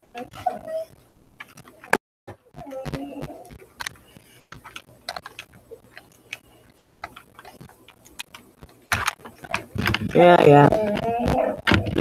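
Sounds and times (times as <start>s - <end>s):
clicks and taps from handling objects: 1.4s - 12.0s.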